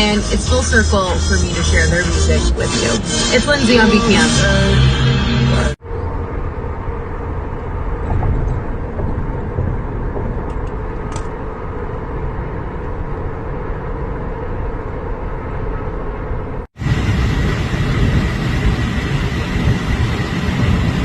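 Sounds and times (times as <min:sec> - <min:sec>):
vehicle road noise rumble: 0:00.0 - 0:21.0.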